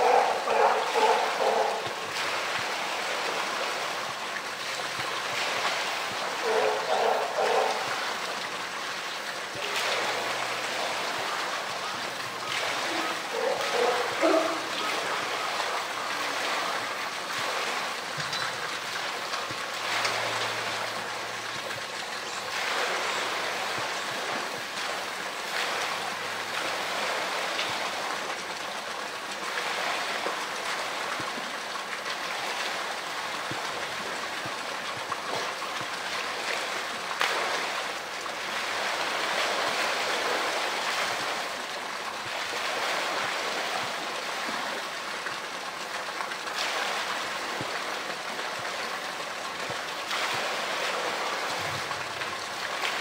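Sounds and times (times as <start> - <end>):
rush of moving water: 0.0 - 53.0
water splashing and lapping: 0.0 - 53.0.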